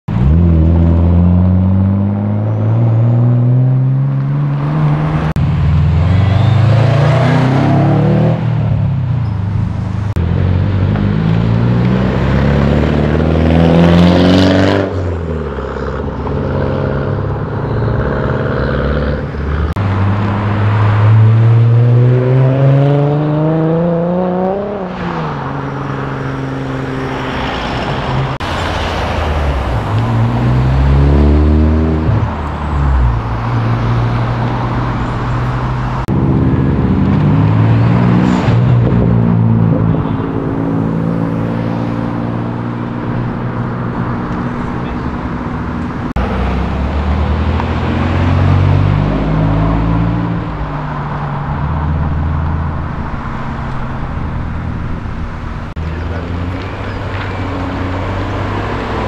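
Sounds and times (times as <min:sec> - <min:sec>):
car engines revving accelerating: 0:00.1 - 0:59.0.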